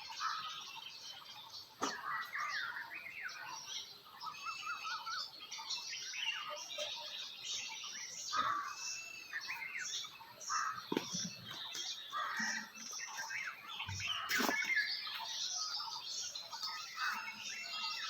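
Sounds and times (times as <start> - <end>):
songbirds chirping and singing: 0.0 - 18.0.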